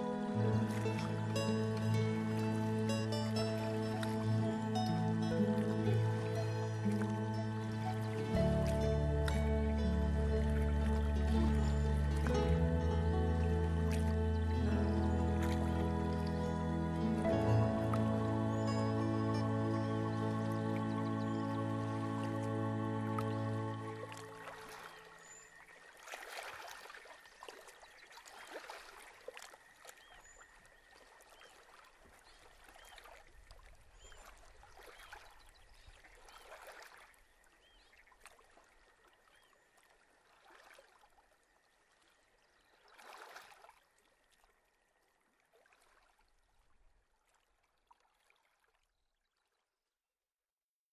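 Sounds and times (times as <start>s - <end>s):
faint flowing water: 0.0s - 49.9s.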